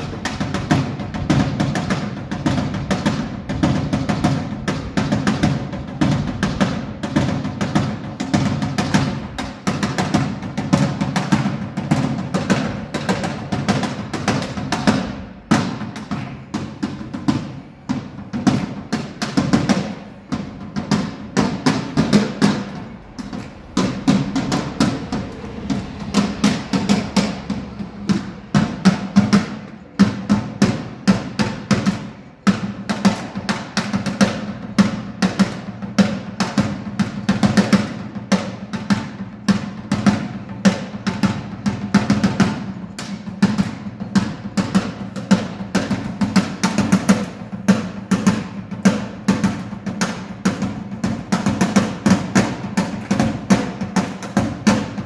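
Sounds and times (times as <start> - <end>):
drum kit playing fast: 0.0 - 55.0.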